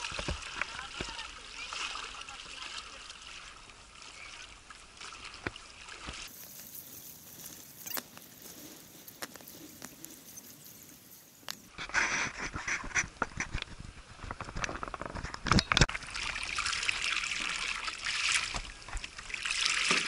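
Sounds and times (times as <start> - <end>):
water lapping against paddleboard: 0.0 - 20.0.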